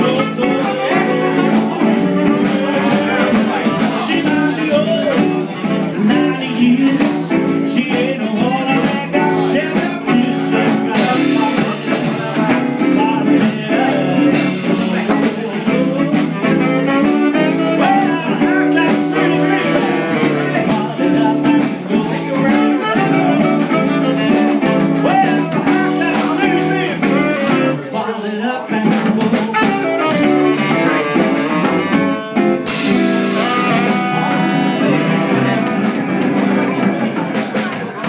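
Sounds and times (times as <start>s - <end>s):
bluesy jazz band playing: 0.0s - 38.0s.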